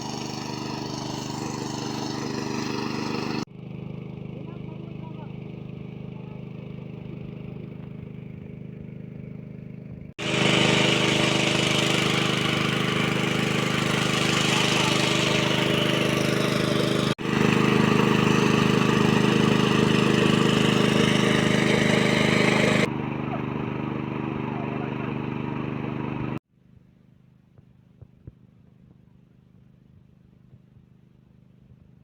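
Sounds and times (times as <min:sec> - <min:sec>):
water pump engine hum: 0:00.0 - 0:26.4.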